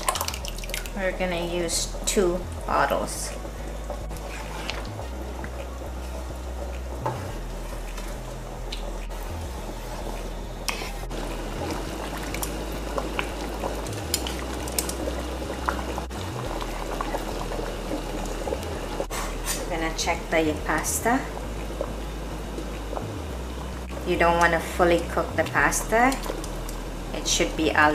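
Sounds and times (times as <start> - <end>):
pot of water boiling: 0.0 - 27.9.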